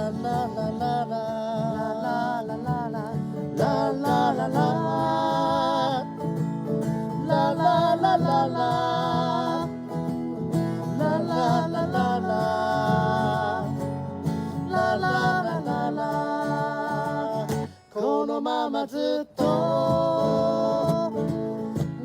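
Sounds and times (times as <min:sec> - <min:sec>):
person singing wavering melody: 0:00.0 - 0:21.9
acoustic guitar strummed: 0:00.0 - 0:22.0.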